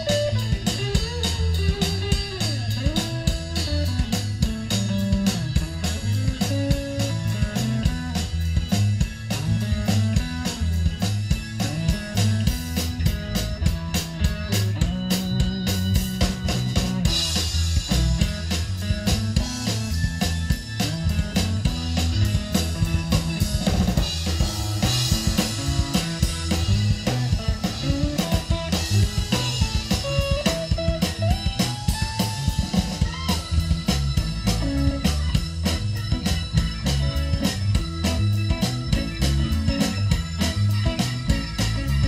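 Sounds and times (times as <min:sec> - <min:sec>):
drum kit beat: 0:00.0 - 0:42.0
electric guitars: 0:00.0 - 0:42.0
keyboard: 0:00.0 - 0:42.0.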